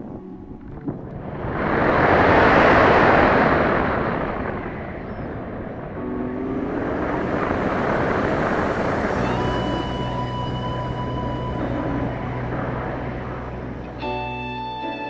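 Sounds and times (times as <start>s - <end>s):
airflow rushing over camera: 0.7s - 14.2s.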